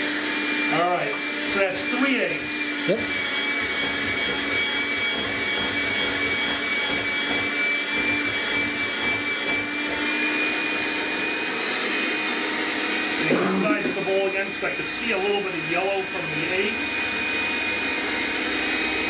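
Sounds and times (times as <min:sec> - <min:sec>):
electric hand mixer whining: 0:00.0 - 0:19.0.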